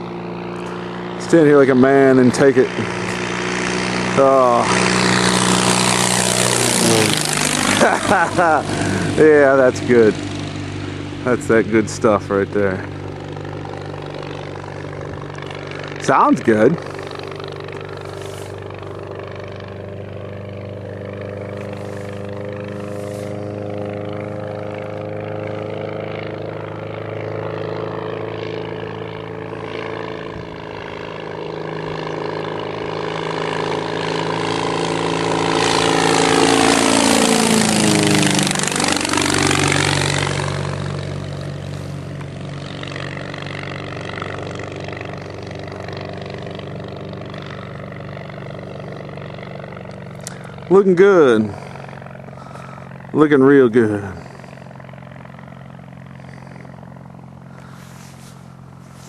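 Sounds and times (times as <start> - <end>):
light airplane engine and propeller: 0.0 - 59.0.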